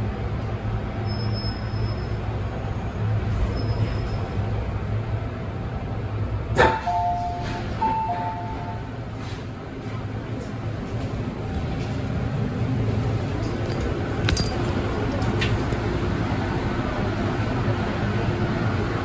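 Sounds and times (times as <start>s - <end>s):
train rumbling and humming: 0.0s - 19.0s.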